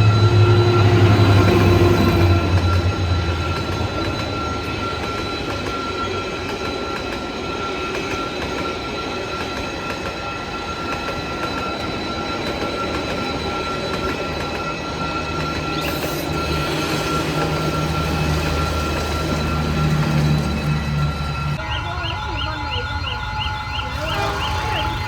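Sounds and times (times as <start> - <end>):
thin high tone: 0.0 - 25.0
train wheels on rails: 0.0 - 25.0.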